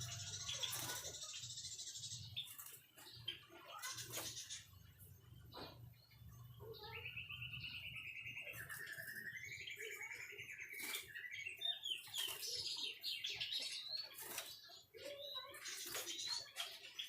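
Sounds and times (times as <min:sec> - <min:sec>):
bird singing trills and whistles: 0:00.0 - 0:04.8, 0:05.5 - 0:17.0.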